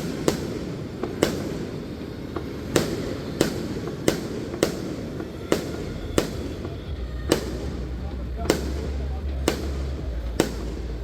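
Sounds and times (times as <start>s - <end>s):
faint firework pops: 0.0s - 11.0s
fireworks bangs: 0.0s - 11.0s
steady background noise: 0.0s - 11.0s.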